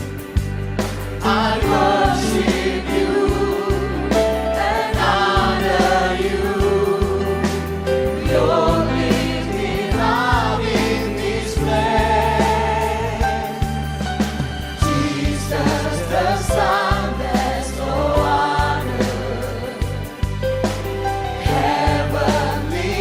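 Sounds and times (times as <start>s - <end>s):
keyboard and bass chords: 0.0s - 23.0s
voices singing worship song: 1.1s - 23.0s.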